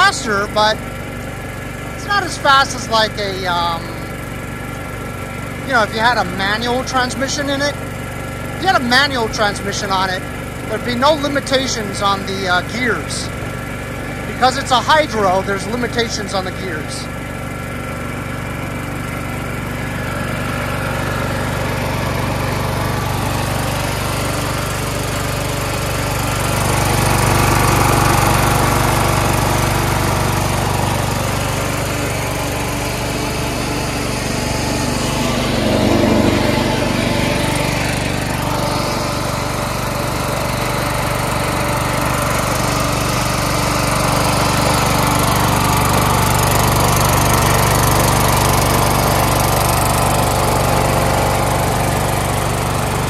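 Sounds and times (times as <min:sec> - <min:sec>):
lawn tractor engine running: 0:00.0 - 0:53.0.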